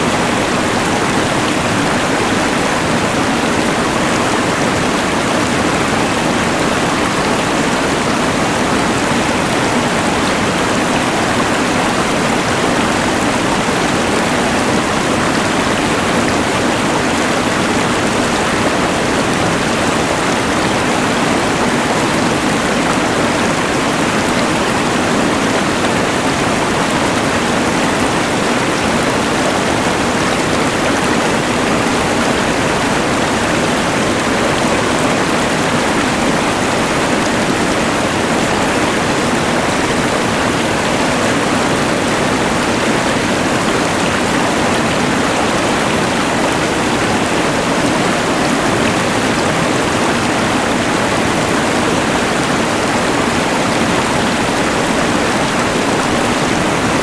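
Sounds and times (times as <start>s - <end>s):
rushing mountain river: 0.0s - 57.0s.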